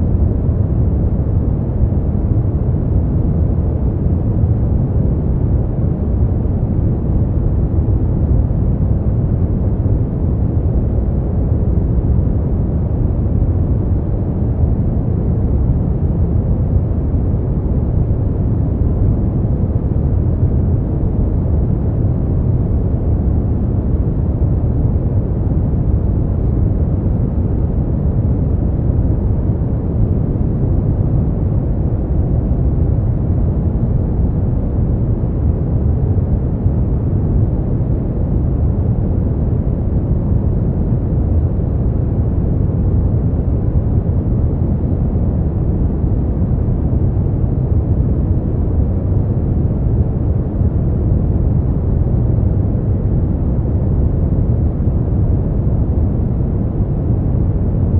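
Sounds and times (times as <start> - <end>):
deep rumbly steady noise: 0.0 - 57.9.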